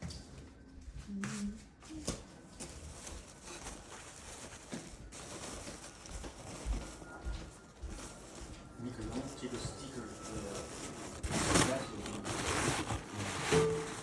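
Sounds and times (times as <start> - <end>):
rustling: 1.9 - 14.0.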